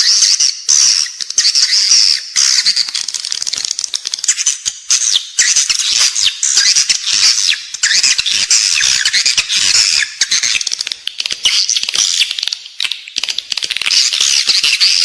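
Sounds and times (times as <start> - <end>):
swiftlets chirping and twittering: 0.0 - 12.5, 13.7 - 15.0.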